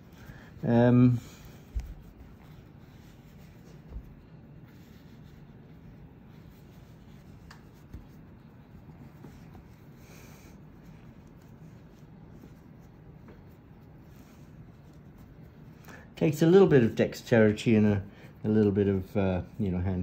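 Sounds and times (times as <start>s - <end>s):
cloth rubbing and rustling: 0.0s - 20.0s
low room hum: 0.0s - 20.0s.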